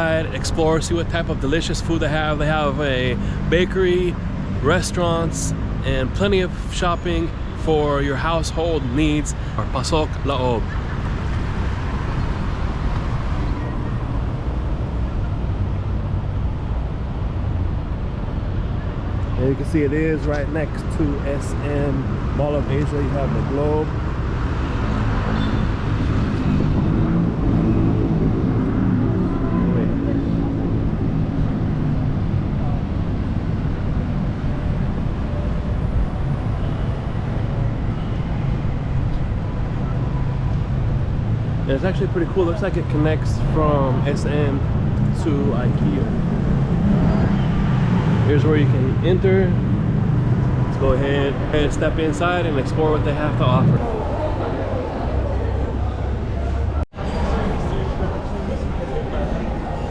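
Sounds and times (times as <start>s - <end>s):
low city ambience rumble: 0.0s - 59.9s.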